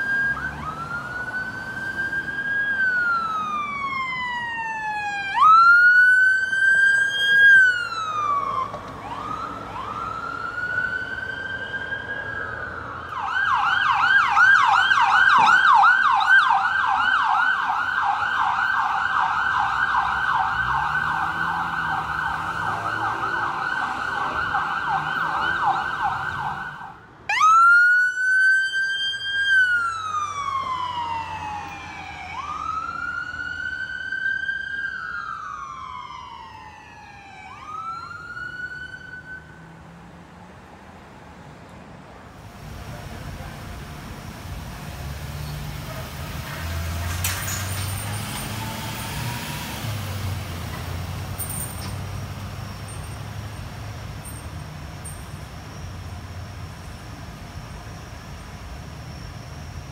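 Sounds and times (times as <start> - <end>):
ambulance siren yelp: 0.0 - 39.8, 42.5 - 59.9
ambulance siren wail: 0.0 - 40.0, 42.5 - 59.9.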